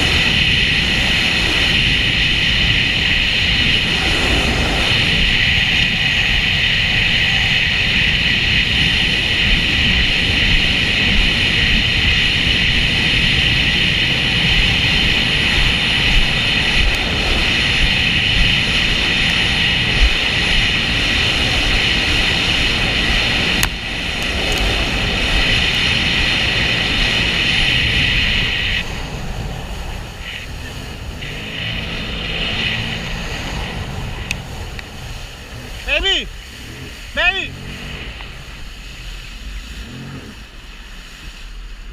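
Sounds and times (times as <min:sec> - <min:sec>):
jet ski engine whine: 0:00.0 - 0:41.9
rush of water noise: 0:00.0 - 0:41.9.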